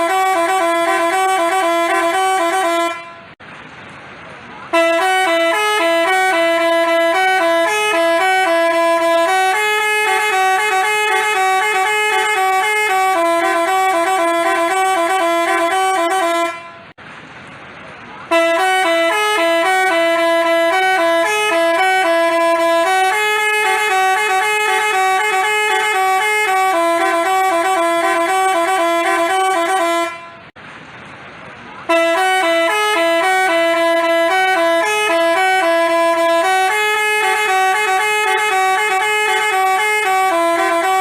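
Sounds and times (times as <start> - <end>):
bus horn playing a melody: 0.0 - 3.4, 4.7 - 17.0, 18.2 - 30.6, 31.8 - 41.0.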